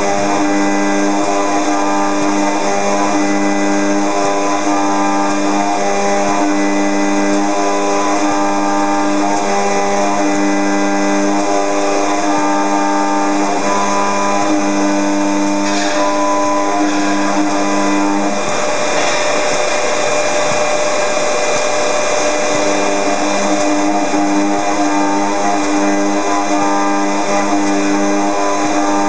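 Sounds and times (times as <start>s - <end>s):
spindle whine: 0.0s - 29.0s.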